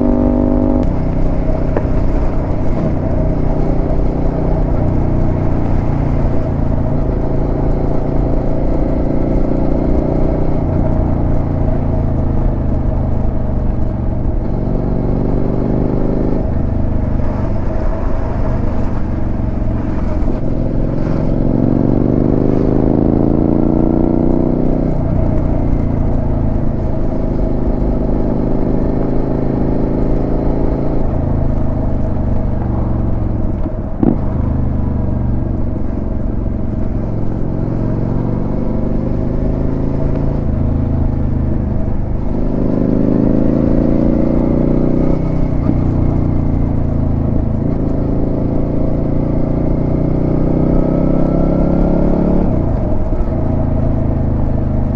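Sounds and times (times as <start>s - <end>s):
motorcycle engine on the move: 0.0s - 54.9s.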